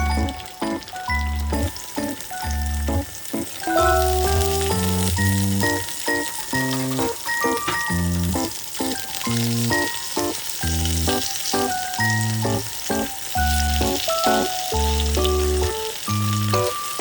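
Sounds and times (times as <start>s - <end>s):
background music: 0.0s - 17.0s
food frying in oil: 0.0s - 17.0s.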